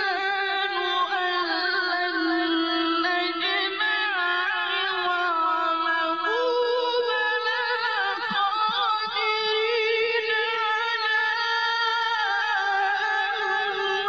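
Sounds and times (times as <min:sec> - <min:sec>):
person singing chant-like notes: 0:00.0 - 0:14.0.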